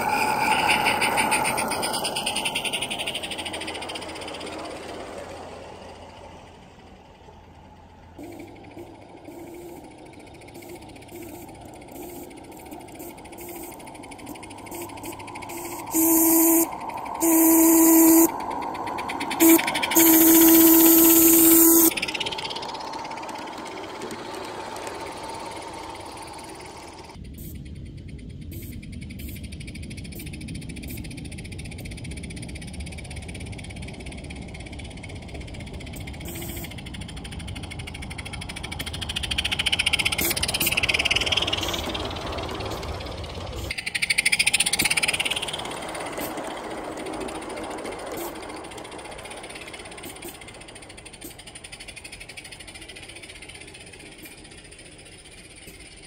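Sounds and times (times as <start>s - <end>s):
steam hiss: 0.0s - 6.6s, 8.2s - 27.6s, 35.6s - 56.0s
small cars clattering over track: 0.0s - 27.2s, 29.4s - 56.0s
low rumble: 0.0s - 56.0s
model steam train chuffing and clicking: 0.0s - 56.0s.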